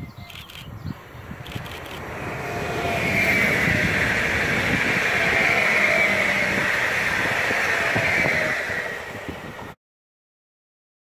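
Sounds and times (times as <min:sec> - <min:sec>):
high train whine: 0:00.1 - 0:09.8
train wheels rushing on rails: 0:00.3 - 0:09.8.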